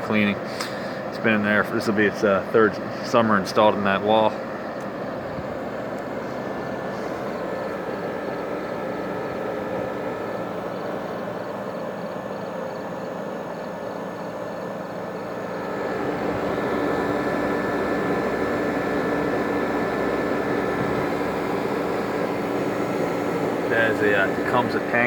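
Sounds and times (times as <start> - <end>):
air conditioner drone: 0.0 - 25.0.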